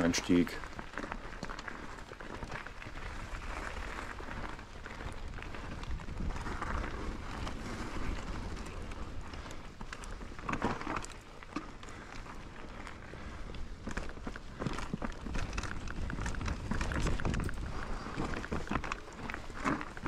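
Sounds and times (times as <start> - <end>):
bike tyres rolling over gravel: 0.0 - 20.0.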